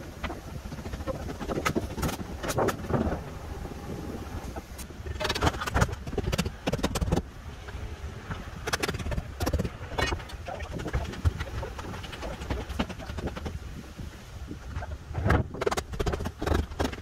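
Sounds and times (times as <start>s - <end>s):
low wind rumble on microphone: 0.0s - 17.0s.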